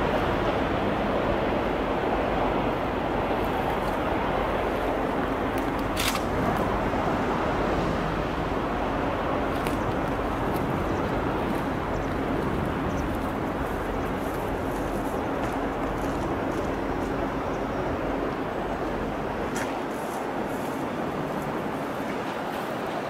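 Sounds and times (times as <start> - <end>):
distant locomotive rumble: 0.0 - 23.0.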